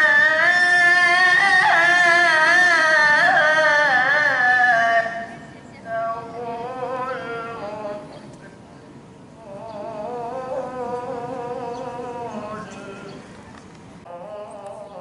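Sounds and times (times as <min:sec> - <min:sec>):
young man reciting melodically: 0:00.0 - 0:08.7, 0:09.3 - 0:13.5, 0:14.1 - 0:15.0.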